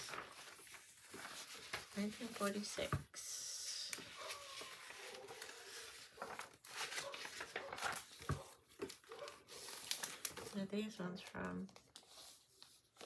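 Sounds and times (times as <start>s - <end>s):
paper pages rustling: 0.0s - 3.0s, 3.8s - 13.0s.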